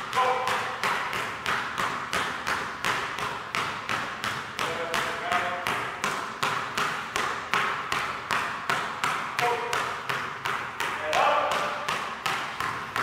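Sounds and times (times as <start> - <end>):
basketballs bouncing on hardwood: 0.0 - 13.0.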